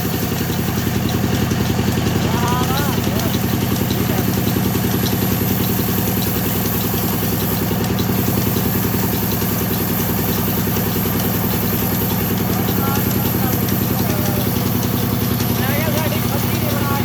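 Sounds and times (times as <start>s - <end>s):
sawmill machine drone: 0.0s - 17.0s.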